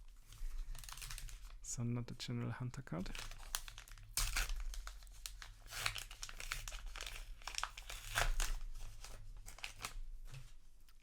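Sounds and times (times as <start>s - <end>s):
paper wrapper crinkling and tearing: 0.1s - 1.7s, 3.0s - 10.4s.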